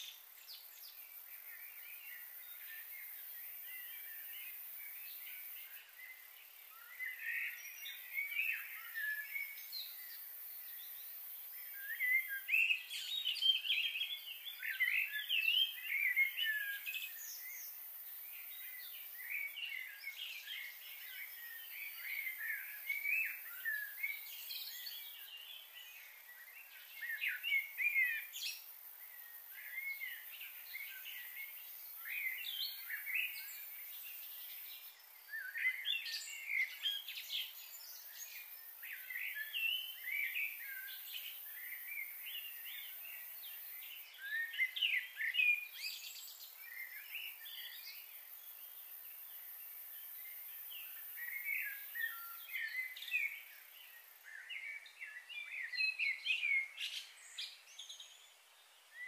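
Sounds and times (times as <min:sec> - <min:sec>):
small birds chirping: 0:00.0 - 0:59.0
steady high hiss: 0:00.0 - 0:59.0.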